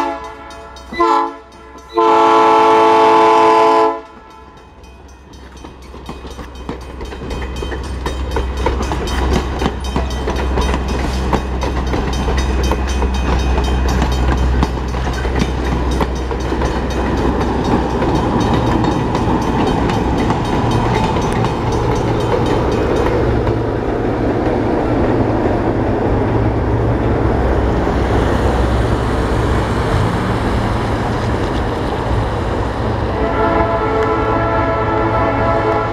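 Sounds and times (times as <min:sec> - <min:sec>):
train wheels clicking on rail joints: 0:00.0 - 0:03.3, 0:03.9 - 0:32.9
diesel locomotive engine drone: 0:00.0 - 0:35.9.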